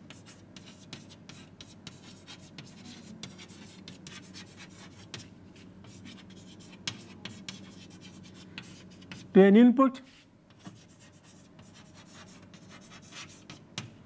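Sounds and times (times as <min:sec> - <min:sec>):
chalk scratching on blackboard: 0:00.0 - 0:09.3, 0:10.1 - 0:13.9
faint low hum: 0:00.0 - 0:14.0.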